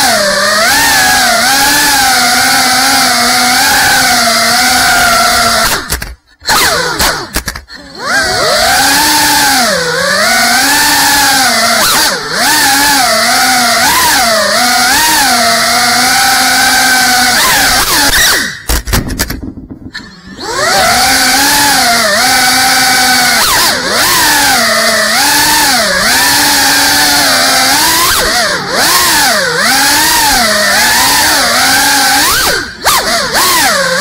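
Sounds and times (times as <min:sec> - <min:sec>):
drone motors whining: 0:00.0 - 0:19.3, 0:19.9 - 0:34.0.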